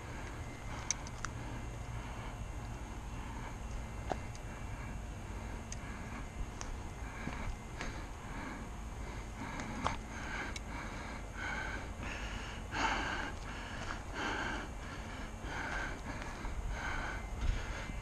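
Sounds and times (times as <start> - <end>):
man breathing hard and fast: 0.0 - 18.0.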